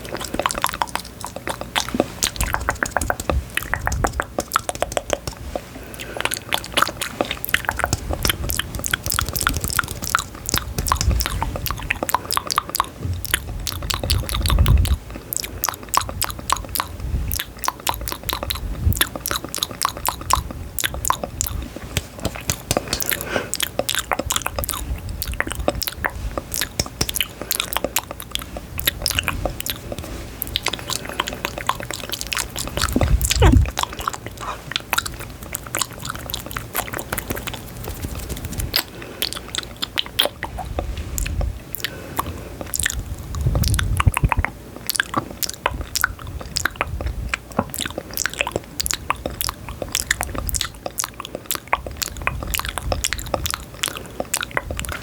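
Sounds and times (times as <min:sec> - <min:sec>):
close chewing and biting crunches: 0:00.0 - 0:55.0.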